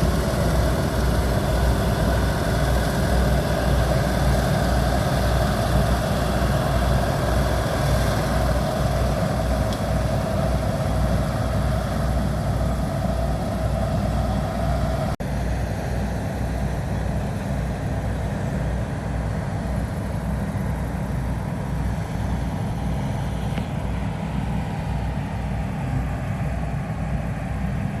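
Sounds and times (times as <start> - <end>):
combine harvester engine rumble: 0.0 - 28.0
mechanical hum: 0.0 - 28.0.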